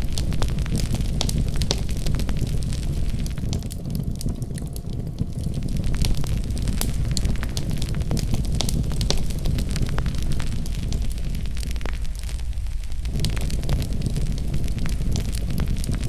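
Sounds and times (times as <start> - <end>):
fire pops and snaps: 0.0 - 16.0
low rumble of flames: 0.0 - 16.0
wood fire crackling: 0.0 - 16.0.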